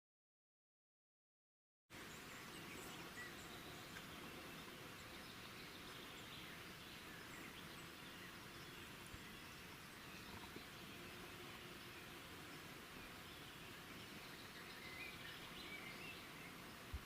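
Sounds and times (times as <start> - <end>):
steady hiss: 1.9 - 17.0
faint bird chirps: 2.0 - 17.0.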